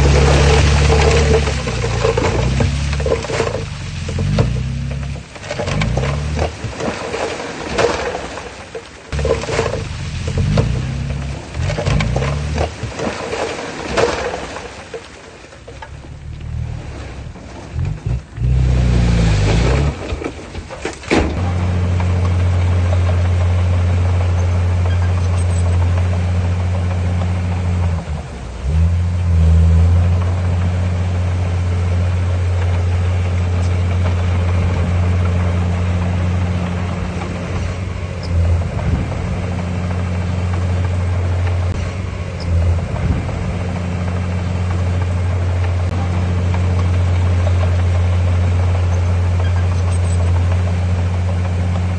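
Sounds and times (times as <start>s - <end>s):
heavy diesel engine running: 0.0s - 7.3s, 8.5s - 13.8s, 15.6s - 51.9s.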